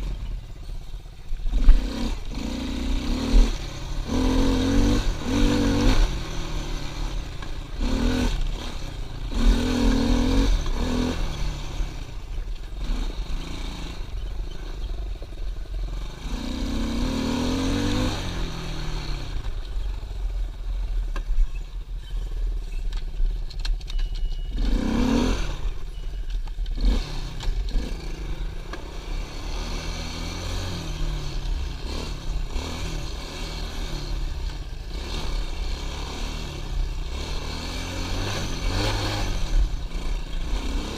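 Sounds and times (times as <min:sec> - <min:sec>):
pit bike engine revving: 0:01.4 - 0:19.6, 0:24.5 - 0:26.0, 0:26.7 - 0:40.9.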